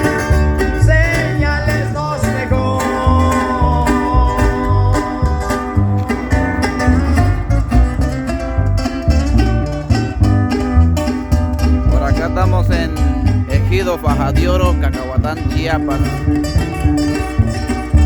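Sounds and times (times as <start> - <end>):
bass line: 0.0 - 18.0
plucked guitar: 0.0 - 18.0.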